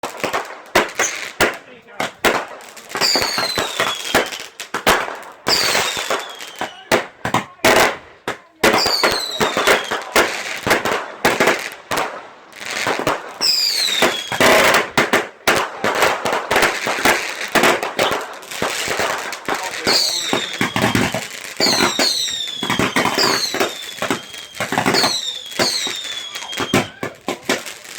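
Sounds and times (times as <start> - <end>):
fireworks bangs and crackles: 0.0 - 27.9
whistling fireworks: 0.0 - 27.9.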